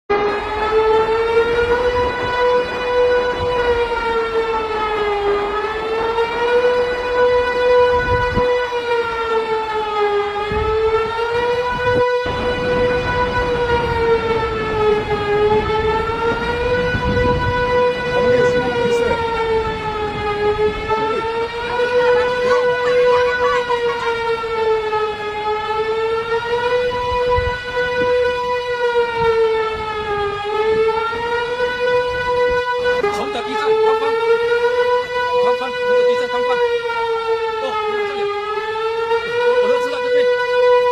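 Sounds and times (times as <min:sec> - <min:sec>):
siren held tone: 0:00.1 - 0:40.9.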